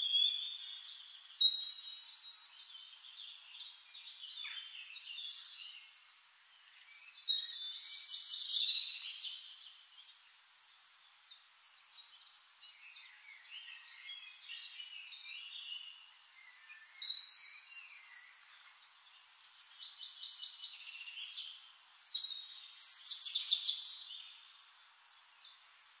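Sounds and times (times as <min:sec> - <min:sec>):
quiet bird chirps and trills: 0:00.0 - 0:26.0
songbirds singing: 0:00.0 - 0:26.0.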